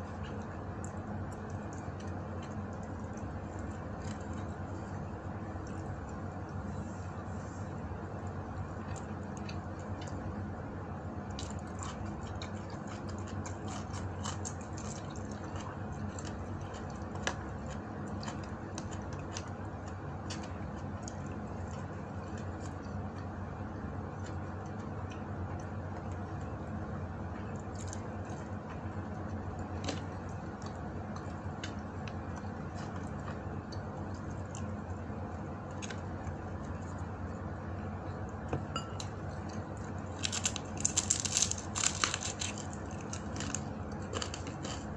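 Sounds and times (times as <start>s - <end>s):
chewing and squishing food: 0.0s - 44.9s
steady background hum: 0.0s - 44.9s.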